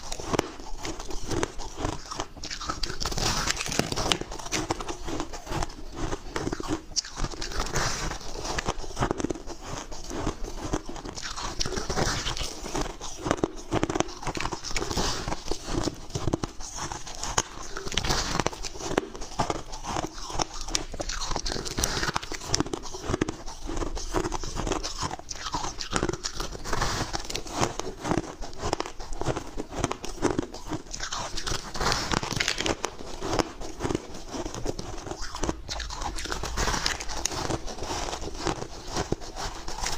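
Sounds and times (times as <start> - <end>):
ice crunching in bites: 0.0 - 39.9.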